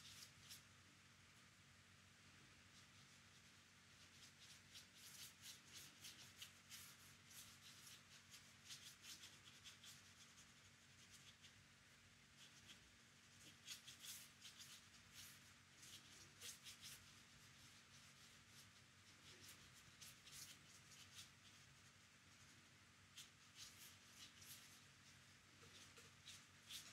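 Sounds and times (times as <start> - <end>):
paintbrush brushing on paper: 0.0 - 0.7, 2.4 - 26.9.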